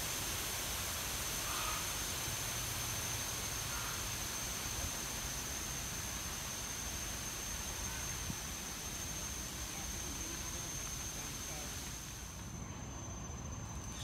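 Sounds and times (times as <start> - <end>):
constant high-pitched tone: 0.0 - 14.0
even hiss: 0.0 - 14.0.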